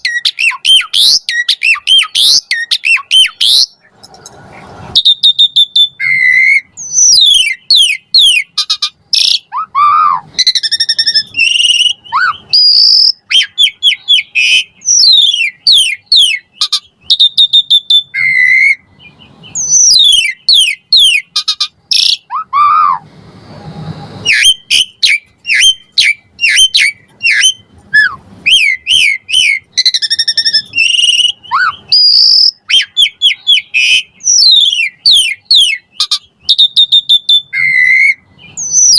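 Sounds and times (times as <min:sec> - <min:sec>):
starling singing: 0:00.0 - 0:23.1, 0:24.2 - 0:38.9.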